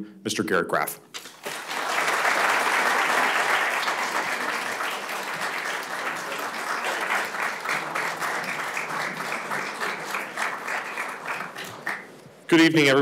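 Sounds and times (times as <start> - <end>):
audience applauding: 1.3 - 12.4.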